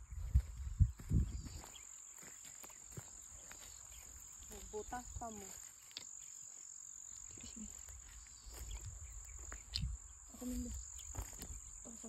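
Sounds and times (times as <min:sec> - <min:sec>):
crickets chirring: 0:00.0 - 0:12.0
footsteps on grass: 0:00.0 - 0:12.0.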